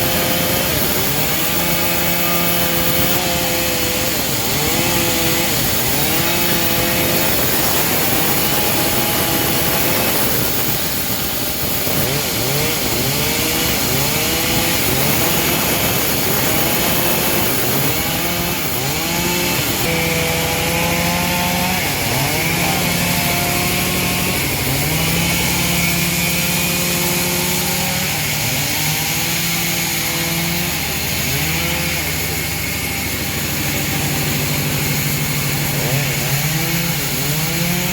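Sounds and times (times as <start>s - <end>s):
engine-driven bandsaw cutting log: 0.0s - 37.9s.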